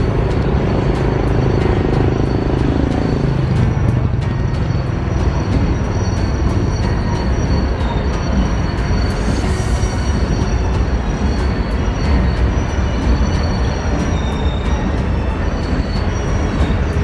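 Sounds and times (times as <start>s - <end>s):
faint high wheel squeal: 0.0s - 17.0s
train rumbling on steel bridge: 0.0s - 17.0s
wheels clicking on rails: 0.0s - 17.0s.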